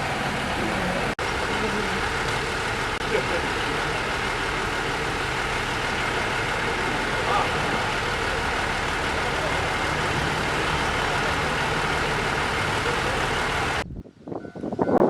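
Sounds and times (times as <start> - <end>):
diesel engine idling: 0.0 - 13.8.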